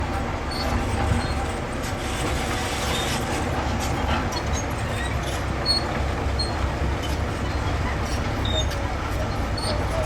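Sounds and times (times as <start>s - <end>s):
diesel machinery rumble: 0.0s - 10.0s.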